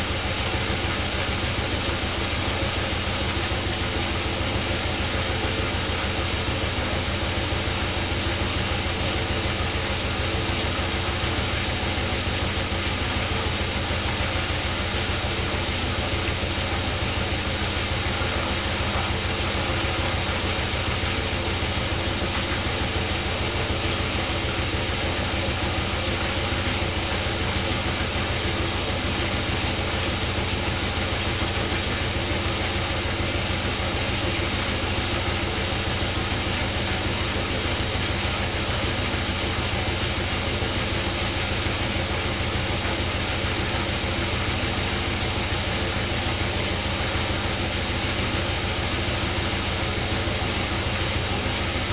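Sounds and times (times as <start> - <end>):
washing machine running: 0.0 - 51.9.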